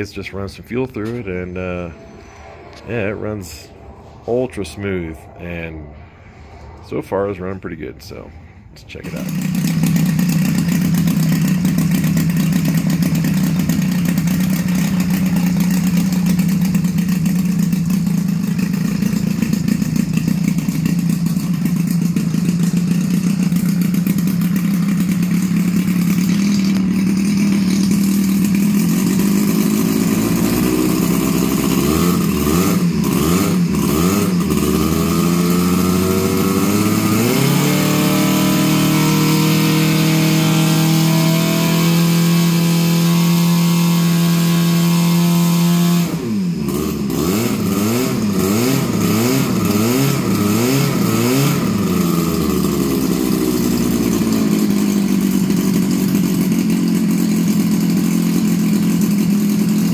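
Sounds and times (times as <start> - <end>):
model plane engine running: 9.1 - 59.9.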